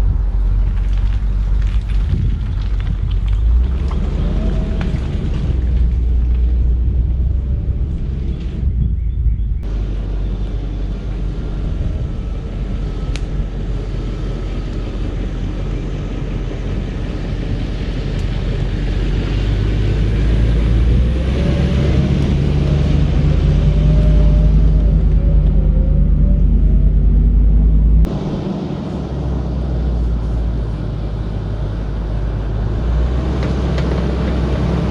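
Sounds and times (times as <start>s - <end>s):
truck driving through mud: 0.0s - 8.7s, 9.7s - 34.9s
truck engine under load: 0.0s - 34.9s.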